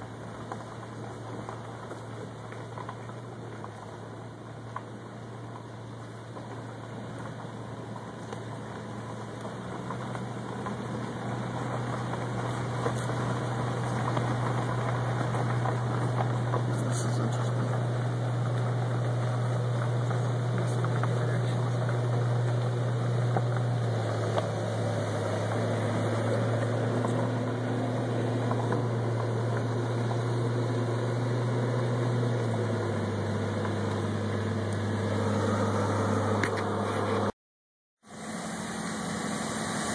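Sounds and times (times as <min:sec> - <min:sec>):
car engine hum: 0:00.0 - 0:37.4, 0:38.0 - 0:39.9.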